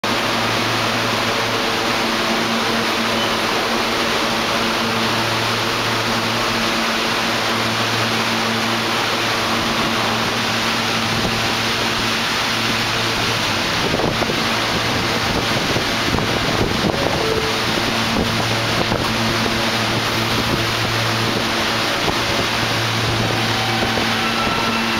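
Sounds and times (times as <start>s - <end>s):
subway train idling hum and hiss: 0.0s - 24.9s.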